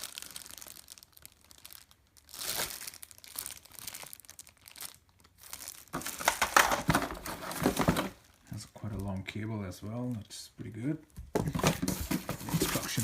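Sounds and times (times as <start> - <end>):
plastic packaging crinkling: 0.0 - 10.3, 11.3 - 13.0.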